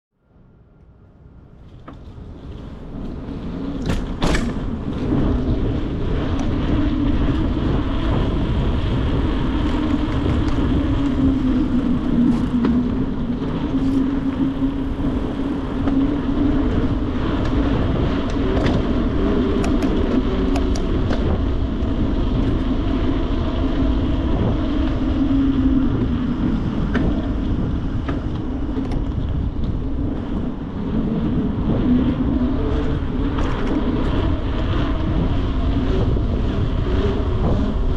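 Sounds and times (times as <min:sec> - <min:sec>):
bicycle riding hum and rush: 0:00.1 - 0:37.9
bicycle clicks and rattles: 0:00.8 - 0:37.9.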